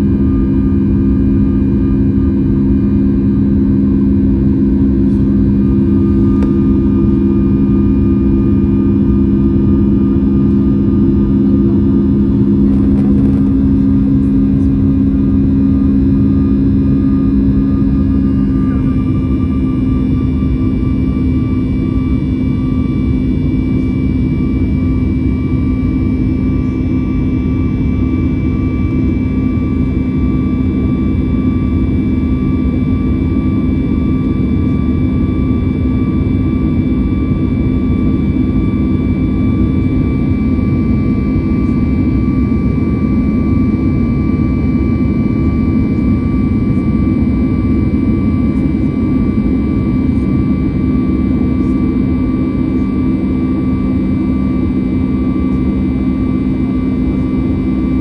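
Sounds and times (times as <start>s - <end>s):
airplane cabin engine rush: 0.0s - 58.0s
steady low hum: 0.0s - 58.0s.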